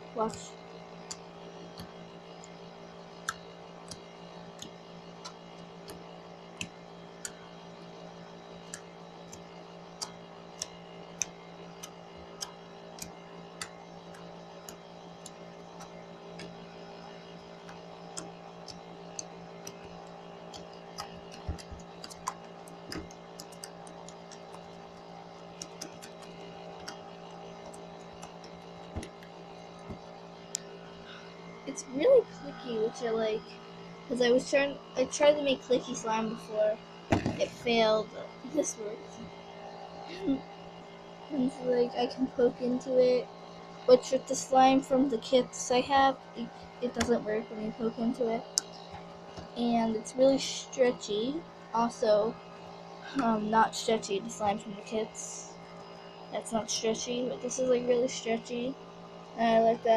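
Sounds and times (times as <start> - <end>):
steady faint hum: 0.0 - 59.9.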